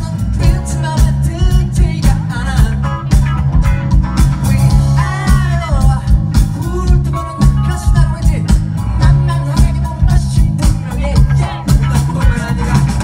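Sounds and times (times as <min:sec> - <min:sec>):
man singing: 0:00.0 - 0:03.4, 0:04.2 - 0:13.0
bass line: 0:00.0 - 0:13.0
drums beating: 0:00.0 - 0:13.0.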